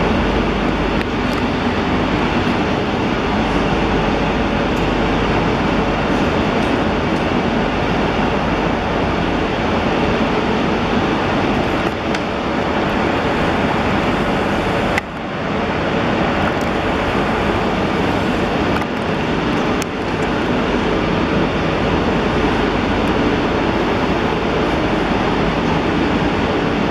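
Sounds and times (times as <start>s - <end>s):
train rumbling: 0.0s - 26.9s.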